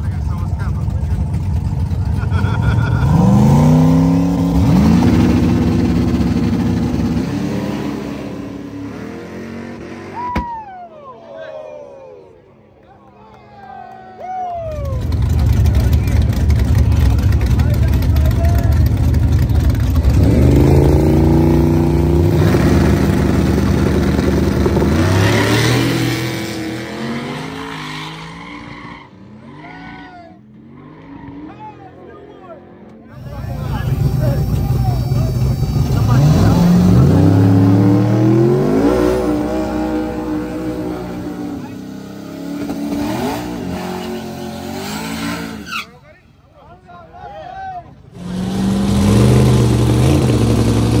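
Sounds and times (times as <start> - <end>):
drag cars accelerating: 0.0 - 10.4, 14.7 - 46.0, 48.0 - 51.0.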